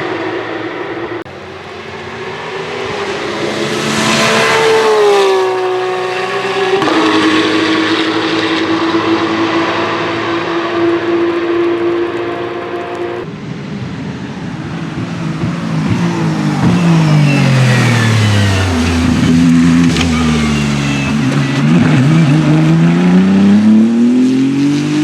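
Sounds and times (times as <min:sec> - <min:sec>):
racing car engine steady note: 0:00.0 - 0:13.6, 0:14.6 - 0:25.0
racing car passing by: 0:00.0 - 0:25.0.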